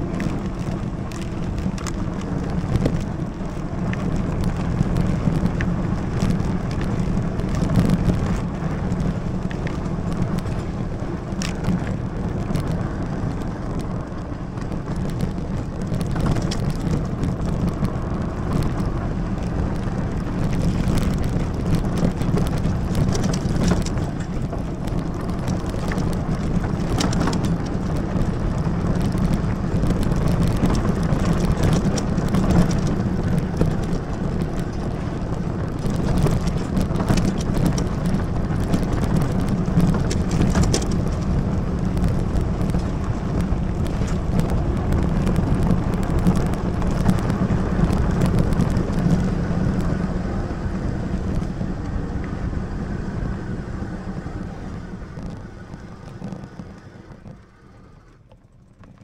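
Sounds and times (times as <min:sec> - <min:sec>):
bike tyres crackling on gravel: 0:00.0 - 0:59.0
wind rumbling on microphone: 0:00.0 - 0:59.0.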